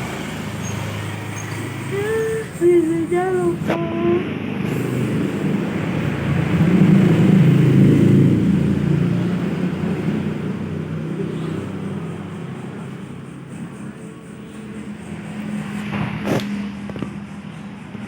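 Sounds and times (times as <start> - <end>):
vehicle passing rumble: 0.0 - 18.0.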